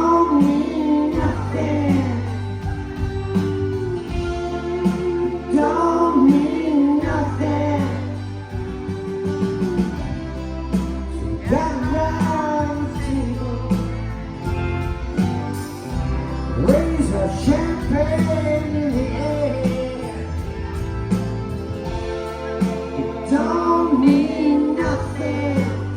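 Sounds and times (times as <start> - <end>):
live rock band playing: 0.0 - 25.9.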